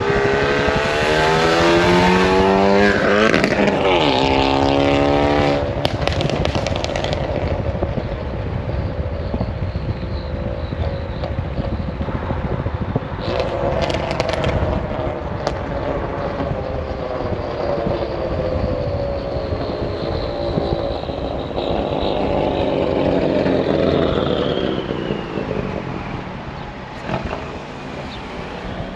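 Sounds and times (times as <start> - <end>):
car engine revving: 0.0 - 8.8, 10.1 - 28.9.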